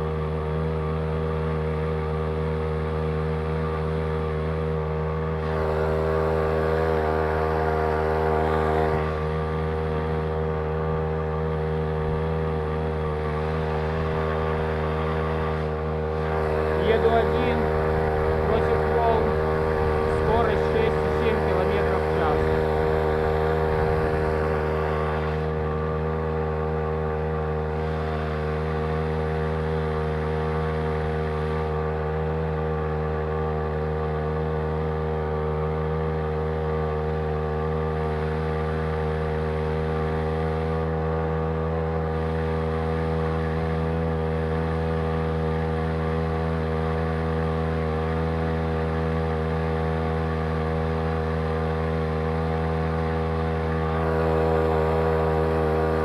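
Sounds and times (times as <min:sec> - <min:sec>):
outboard motor drone: 0:00.0 - 0:56.0.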